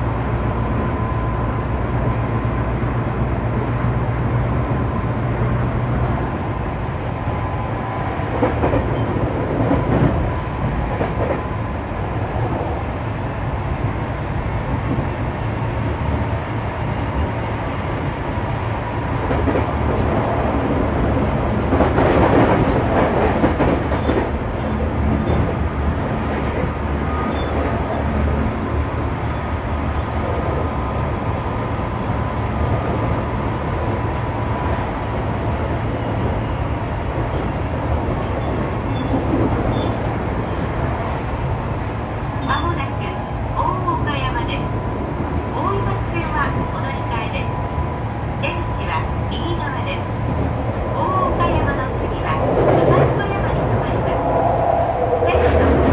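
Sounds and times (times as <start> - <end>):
rumble of train wheels on track: 0.0 - 55.9.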